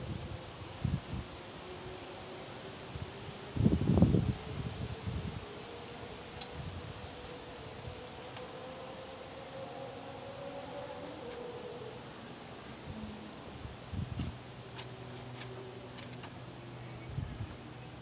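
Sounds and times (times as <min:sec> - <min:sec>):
high-pitched insect buzz: 0:00.0 - 0:18.0.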